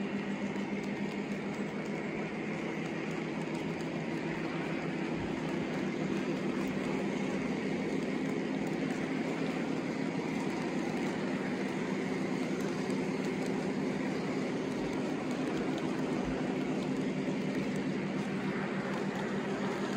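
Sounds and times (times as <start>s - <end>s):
model train wheels rumbling on rails: 0.0s - 19.9s.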